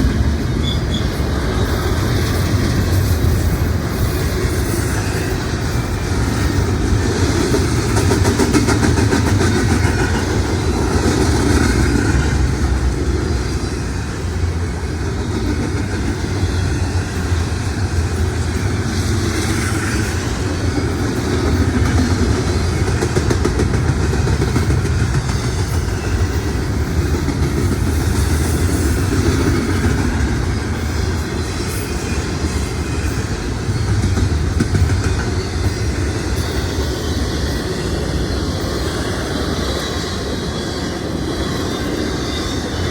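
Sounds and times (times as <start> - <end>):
freight train wheels on rails: 0.0 - 42.9.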